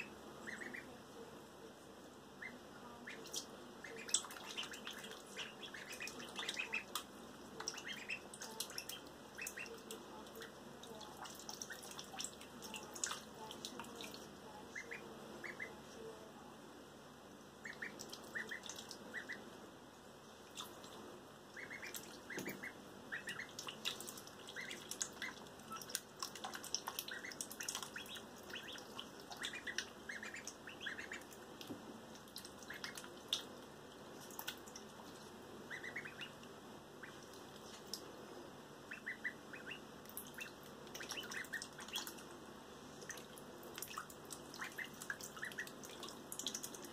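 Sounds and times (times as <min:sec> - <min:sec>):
ducklings peeping: 0:00.0 - 0:01.0, 0:02.3 - 0:15.9, 0:17.5 - 0:19.5, 0:20.5 - 0:38.0, 0:38.8 - 0:42.3, 0:43.0 - 0:46.9
light water splashing: 0:02.4 - 0:16.2, 0:17.6 - 0:19.4, 0:20.2 - 0:46.9.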